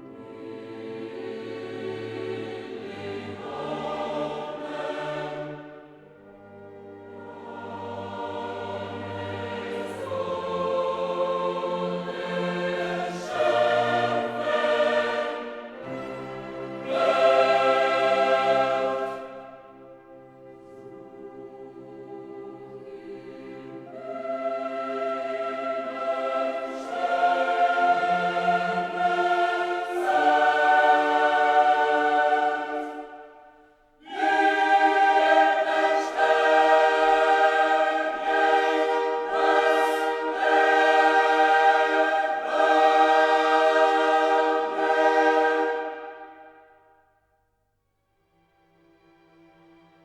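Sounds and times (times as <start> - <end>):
choir singing held phrases: 0.0 - 46.9.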